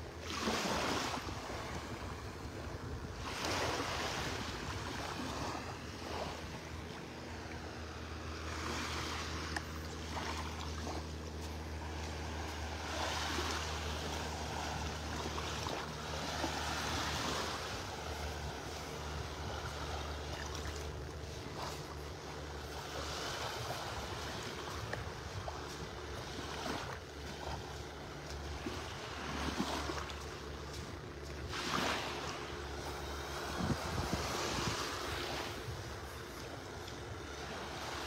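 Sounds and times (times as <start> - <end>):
small waves washing onto beach: 0.0 - 38.0
steady low hum: 0.0 - 38.0.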